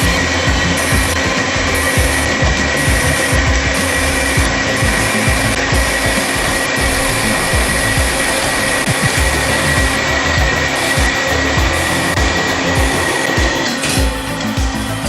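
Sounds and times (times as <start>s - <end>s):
high whine: 0.0s - 15.0s.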